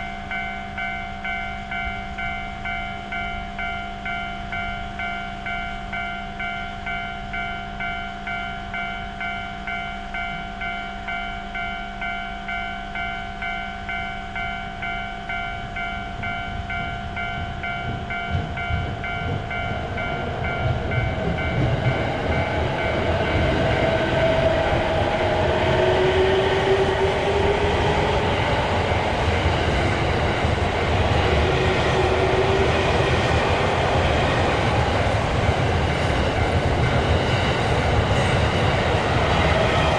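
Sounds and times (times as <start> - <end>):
level-crossing bell ringing: 0.0 - 39.9
train rumbling past: 0.0 - 39.9
train whines: 0.0 - 39.9.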